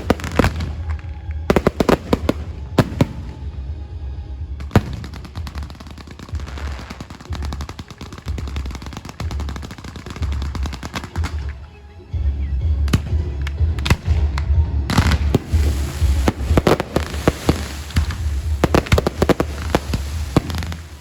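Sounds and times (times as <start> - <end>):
fireworks banging and crackling: 0.0 - 3.6, 4.6 - 12.1, 12.7 - 21.0.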